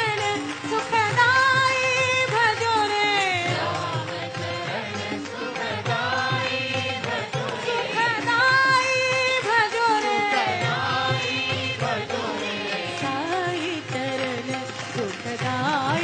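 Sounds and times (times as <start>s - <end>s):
instrumental accompaniment: 0.0s - 16.0s
person singing devotional song: 0.0s - 16.0s.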